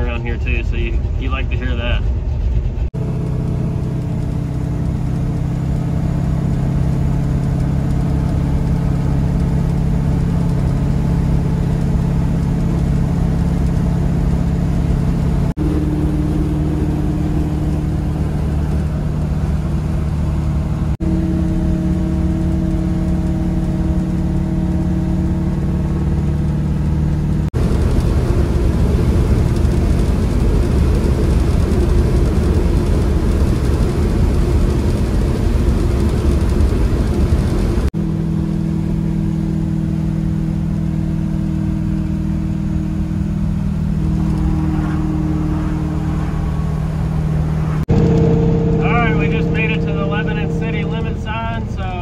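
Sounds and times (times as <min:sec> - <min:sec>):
road and wind noise: 0:00.0 - 0:52.0
truck engine droning: 0:00.0 - 0:52.0.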